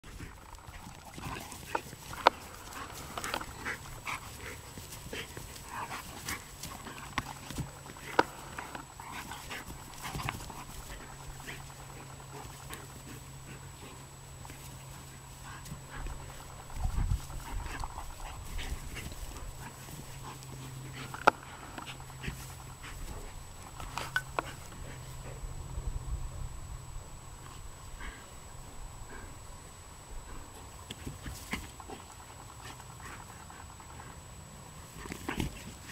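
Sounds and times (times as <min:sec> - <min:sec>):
dogs play-fighting: 0:00.0 - 0:25.5, 0:30.1 - 0:35.9
low steady hum: 0:00.0 - 0:35.9.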